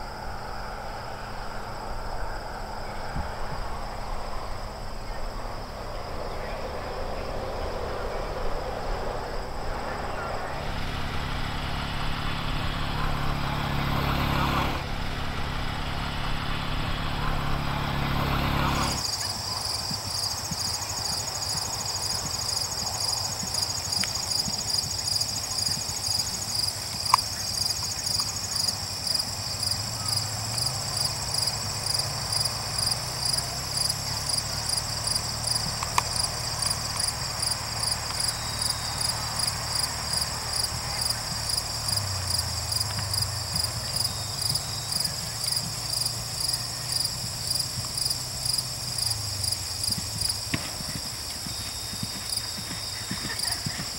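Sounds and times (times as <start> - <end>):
engine drone: 0.0 - 53.9
insects chirping: 0.0 - 53.9.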